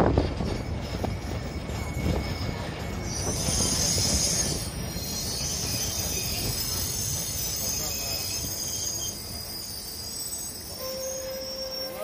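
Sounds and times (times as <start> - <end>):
tram rumbling on rails: 0.0 - 12.0
high metallic squeal: 0.5 - 12.0.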